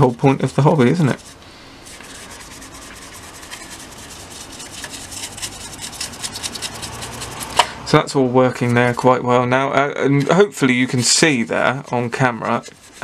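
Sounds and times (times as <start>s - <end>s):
paintbrush scrubbing plastic: 0.0s - 7.6s, 8.4s - 9.2s, 10.2s - 13.0s.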